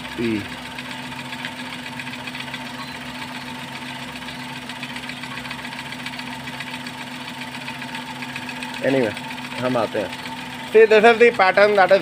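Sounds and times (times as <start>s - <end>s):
car engine idling: 0.0s - 12.0s
fast even ticking: 0.0s - 12.0s.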